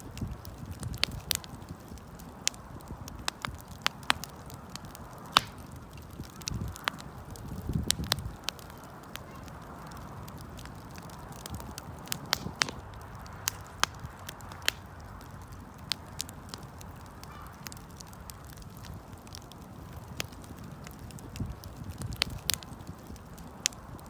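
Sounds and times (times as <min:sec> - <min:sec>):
low rush of flame: 0:00.0 - 0:24.0
wood crackling and popping: 0:00.0 - 0:24.0.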